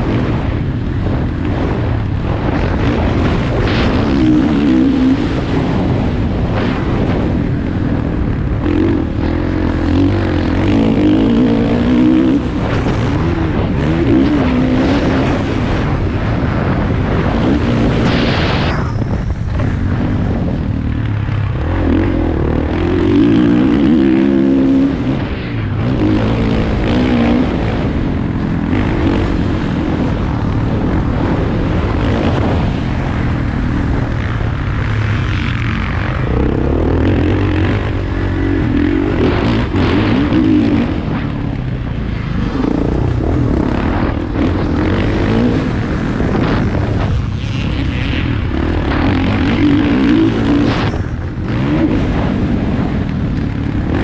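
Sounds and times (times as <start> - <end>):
motorbike engine revving: 0.0 - 18.8, 19.4 - 54.0
rushing noise: 0.0 - 54.0.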